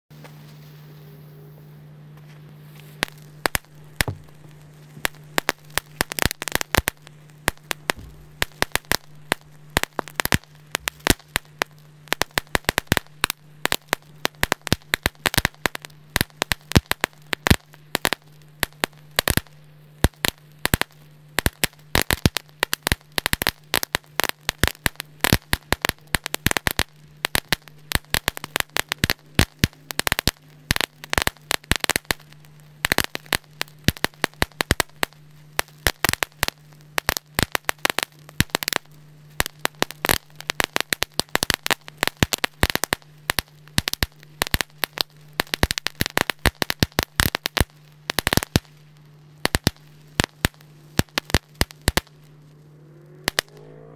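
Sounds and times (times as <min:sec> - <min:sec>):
fireworks crackling: 0:02.5 - 0:52.5, 0:53.1 - 0:53.8.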